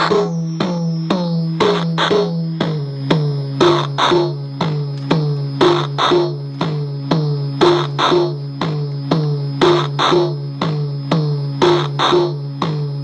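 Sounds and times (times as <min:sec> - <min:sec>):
glitchy drum machine hits: 0:00.0 - 0:13.0
steady low drone: 0:00.0 - 0:13.0.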